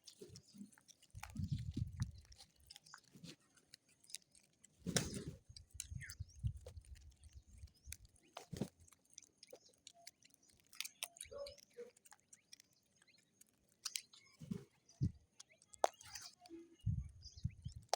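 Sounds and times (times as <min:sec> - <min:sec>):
birds pecking and scuffling: 0:00.0 - 0:17.9.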